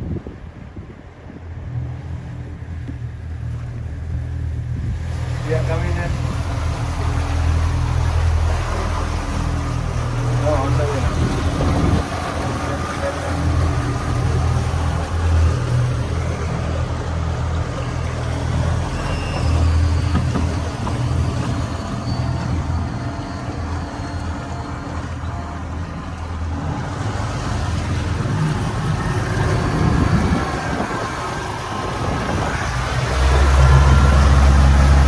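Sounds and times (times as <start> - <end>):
motorboat engine drone: 0.0 - 35.0.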